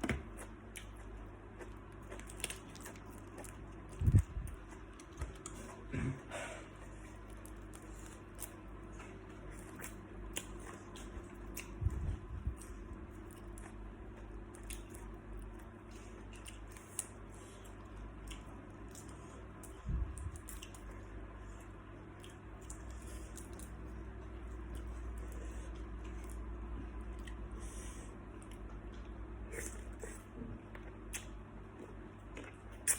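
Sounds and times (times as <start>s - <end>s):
chewing shrimp: 0.0s - 32.9s.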